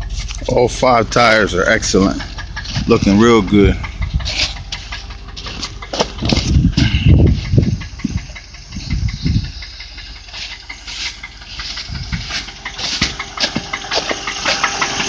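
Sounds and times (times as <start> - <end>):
car engine idling with ticking knock: 0.0 - 15.0
loud low rumbles: 0.0 - 15.0.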